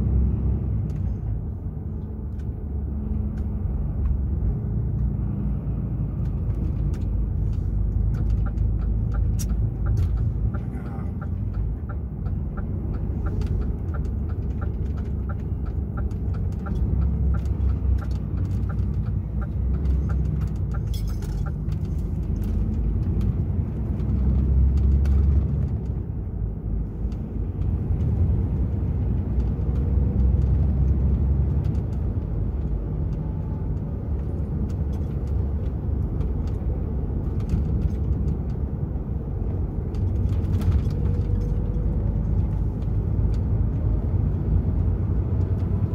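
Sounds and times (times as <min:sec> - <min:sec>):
truck diesel engine rumble: 0:00.0 - 0:45.9.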